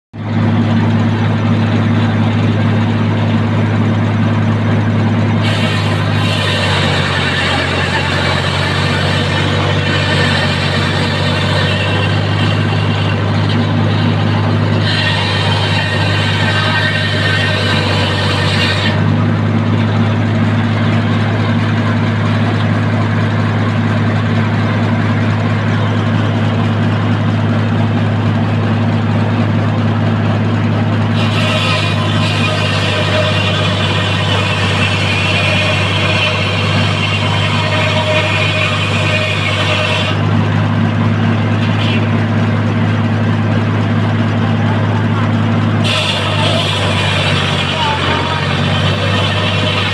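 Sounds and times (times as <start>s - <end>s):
tractor engine running: 0.1s - 49.9s.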